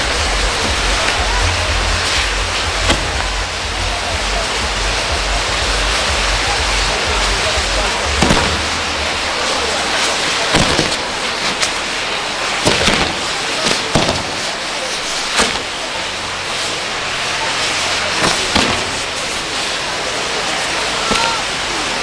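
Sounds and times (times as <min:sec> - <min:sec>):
fireworks hissing: 0:00.0 - 0:22.0
fireworks popping and cracking: 0:00.0 - 0:22.0.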